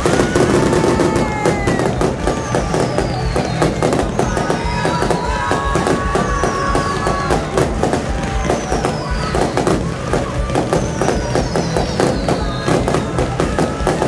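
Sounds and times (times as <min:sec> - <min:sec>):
fireworks crackling and bangs: 0:00.0 - 0:14.0.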